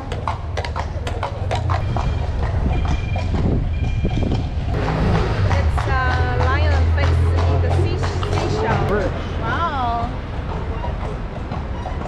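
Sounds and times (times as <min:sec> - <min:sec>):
carriage rolling rumble: 0:00.0 - 0:12.0
hooves clip-clopping on street: 0:00.0 - 0:12.0.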